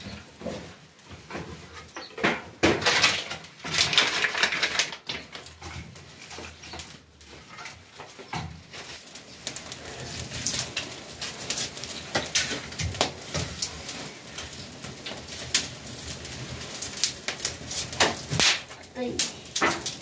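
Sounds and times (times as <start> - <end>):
twigs crackling in a fire: 0.0 - 20.0.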